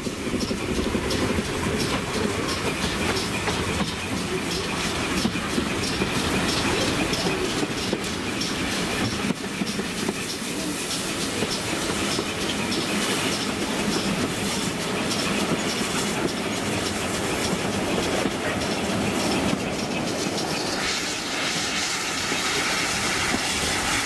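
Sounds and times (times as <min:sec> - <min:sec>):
rail joint clicks: 0:00.0 - 0:24.0
wheels rumbling on rail: 0:00.0 - 0:24.0.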